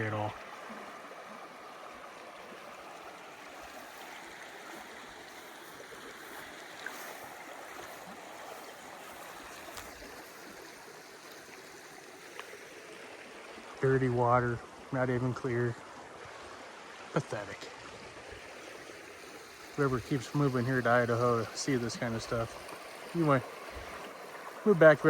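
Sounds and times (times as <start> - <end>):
creek running: 0.0 - 25.0.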